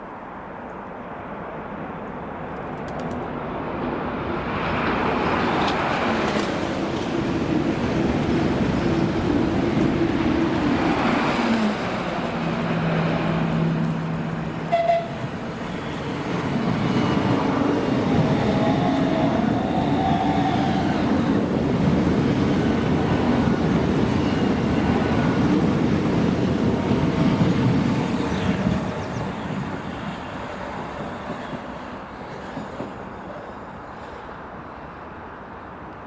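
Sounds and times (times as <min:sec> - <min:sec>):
train passing on rails: 0:00.0 - 0:36.0.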